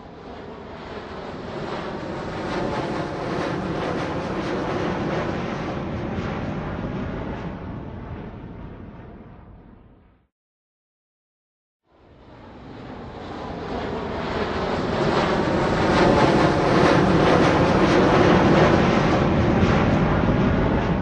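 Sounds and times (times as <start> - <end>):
aircraft roar: 0.0 - 10.1, 12.1 - 21.0.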